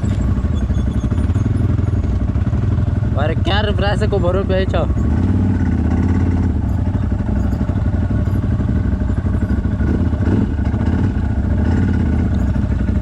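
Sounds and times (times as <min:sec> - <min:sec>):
atv engine running steadily: 0:00.0 - 0:13.0.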